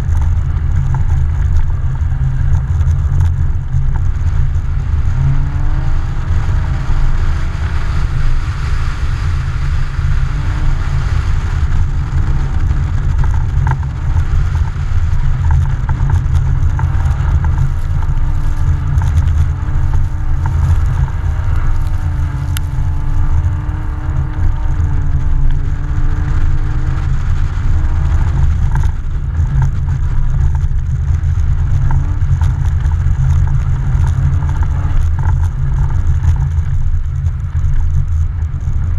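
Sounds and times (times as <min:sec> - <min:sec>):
car engine revving: 0:00.0 - 0:38.9
wind rumble on microphone: 0:00.0 - 0:38.9.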